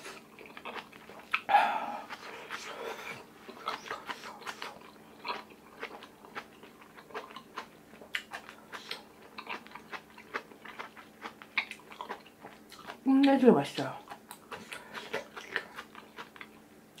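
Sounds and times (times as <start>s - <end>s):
close chewing mouth smacks: 0.4s - 13.4s, 14.0s - 17.0s.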